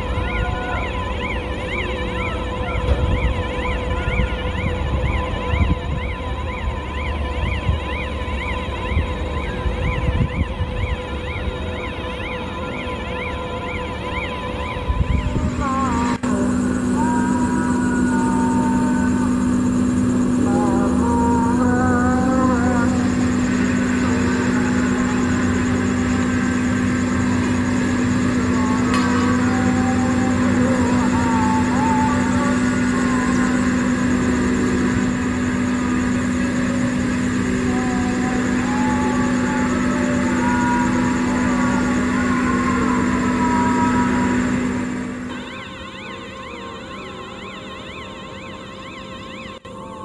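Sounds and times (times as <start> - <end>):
heavy engine humming steadily: 0.0 - 50.0.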